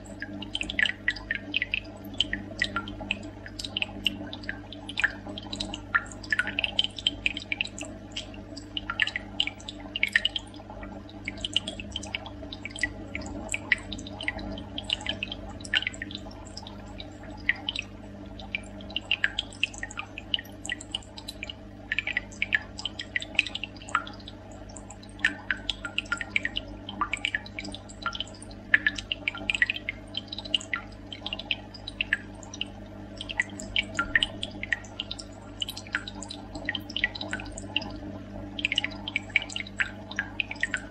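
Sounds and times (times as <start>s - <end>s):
water bubbling and dripping: 0.0s - 40.9s.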